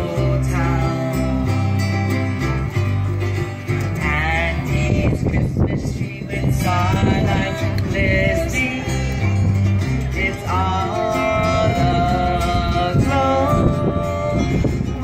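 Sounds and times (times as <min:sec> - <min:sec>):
country song with acoustic guitar: 0:00.0 - 0:15.0.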